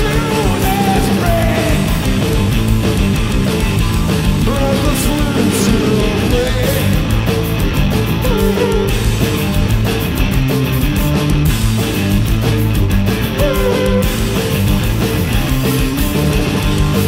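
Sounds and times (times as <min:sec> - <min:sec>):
drum kit: 0:00.0 - 0:17.0
heavy rock electric guitar: 0:00.0 - 0:17.0.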